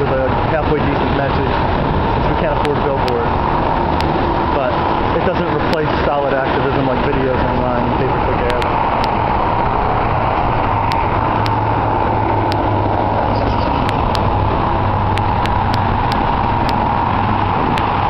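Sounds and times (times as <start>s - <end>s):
freeway traffic: 0.0s - 18.0s.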